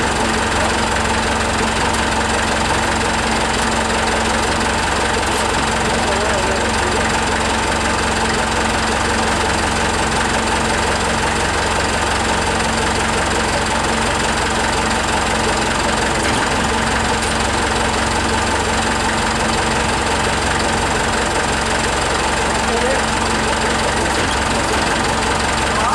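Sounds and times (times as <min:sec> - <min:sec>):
forklift engine idling: 0:00.0 - 0:25.9.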